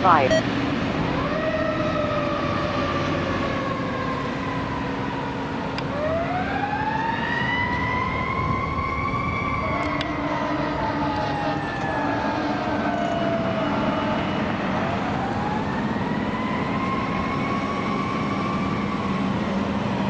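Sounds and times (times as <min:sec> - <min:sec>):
fire truck siren wailing: 0:00.0 - 0:20.0.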